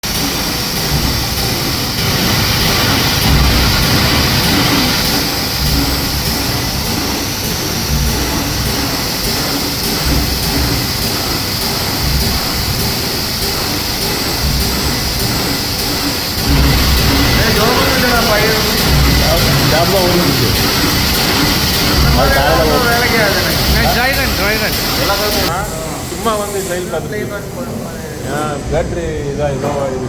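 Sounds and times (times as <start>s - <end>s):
punch press hiss and hum: 0.0s - 27.8s.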